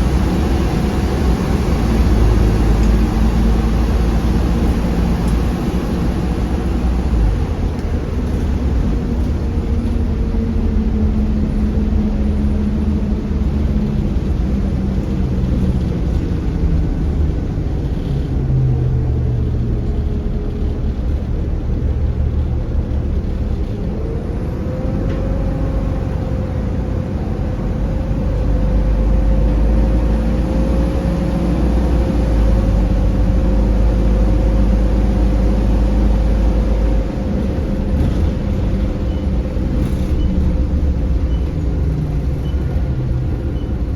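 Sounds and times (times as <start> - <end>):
bus engine: 0.0 - 43.9
heavy low rumble: 0.0 - 43.9.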